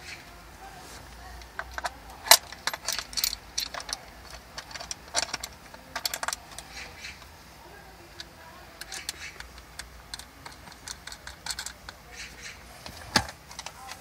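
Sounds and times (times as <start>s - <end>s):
sharp plastic clicks and rattles: 1.4s - 7.3s, 8.1s - 14.0s.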